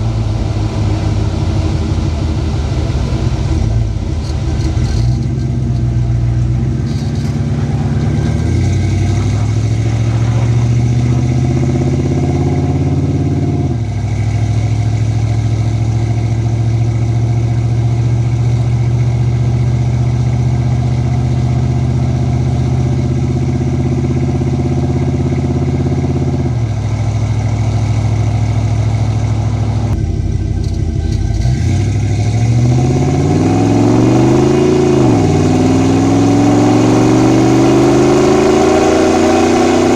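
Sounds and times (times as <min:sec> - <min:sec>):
engine shifting through gears: 0:00.0 - 0:39.9.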